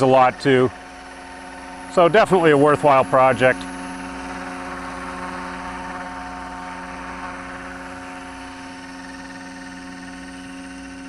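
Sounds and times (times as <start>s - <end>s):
rc helicopter rotors humming: 0.0s - 11.0s.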